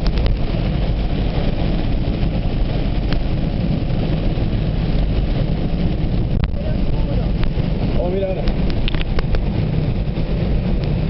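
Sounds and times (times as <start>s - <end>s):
car engine and tyres rumbling: 0.0s - 11.0s
rain hissing: 0.0s - 11.0s.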